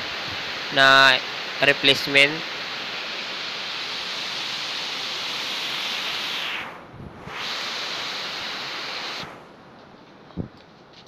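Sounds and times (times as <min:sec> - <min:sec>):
heavy rain hissing: 0:00.0 - 0:09.6.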